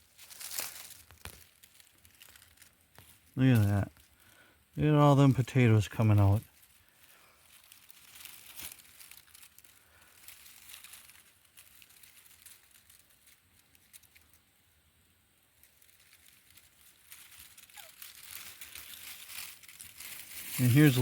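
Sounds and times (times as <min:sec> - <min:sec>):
dry soil and vines rustling: 0:00.0 - 0:21.0.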